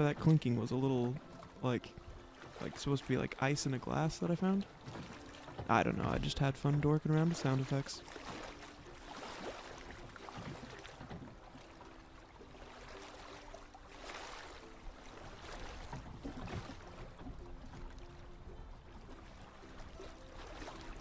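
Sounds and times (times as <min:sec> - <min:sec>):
waves: 0:00.0 - 0:21.0
wind: 0:00.0 - 0:21.0.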